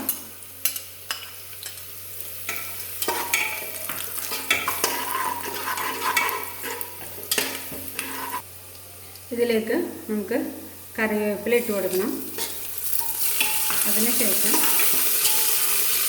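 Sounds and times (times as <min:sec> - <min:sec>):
onion and spices sizzling in oil: 0:00.0 - 0:16.0.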